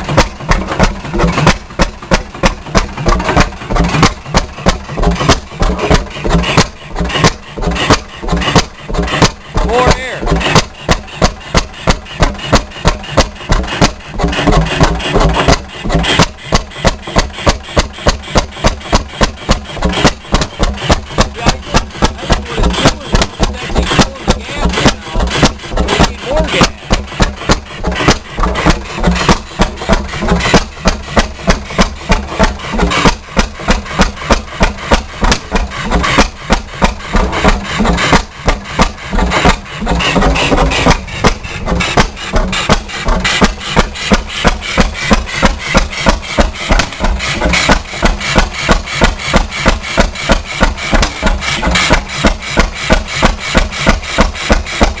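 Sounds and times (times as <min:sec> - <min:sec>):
stationary engine exhaust banging: 0:00.0 - 0:55.0.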